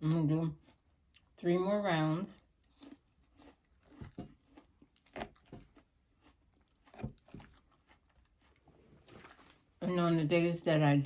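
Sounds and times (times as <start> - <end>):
chewing crunchy salad: 0.0 - 9.8.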